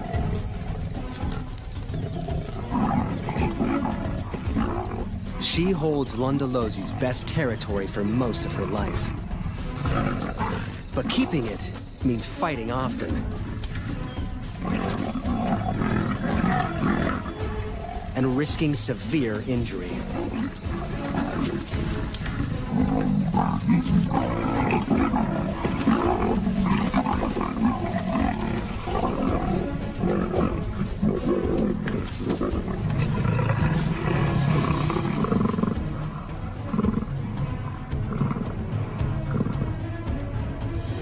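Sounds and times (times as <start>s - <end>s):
background music: 0.0s - 41.0s
leopards snarling and growling: 0.0s - 41.0s.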